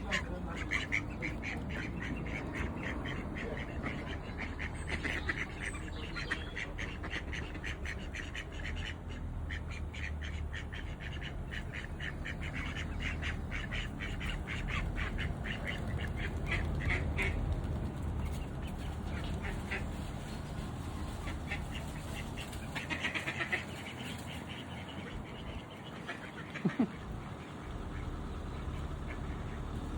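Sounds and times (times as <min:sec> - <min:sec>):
ducks quacking: 0:00.0 - 0:29.9.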